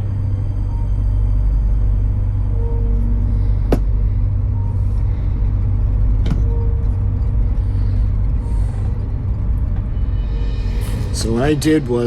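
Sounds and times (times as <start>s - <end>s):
eerie drone music: 0.0s - 12.0s.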